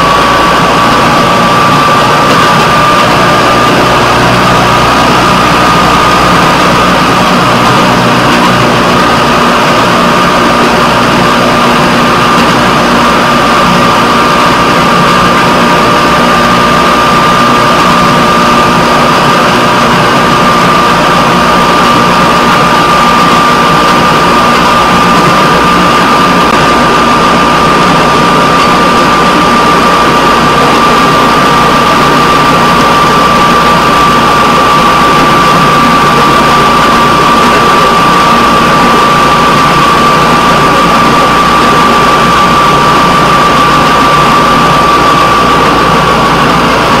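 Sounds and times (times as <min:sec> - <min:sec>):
constant high whine: 0:00.0 - 0:47.0
rail vehicle engine and rolling: 0:00.0 - 0:47.0.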